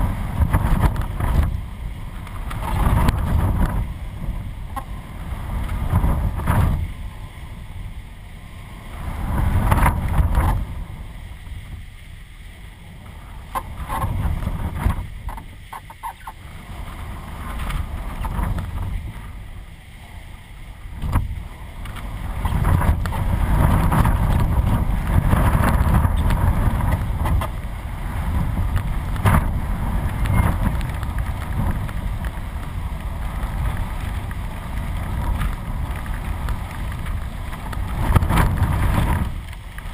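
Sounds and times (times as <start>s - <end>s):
wind buffeting microphone: 0.0s - 12.1s, 12.7s - 39.9s.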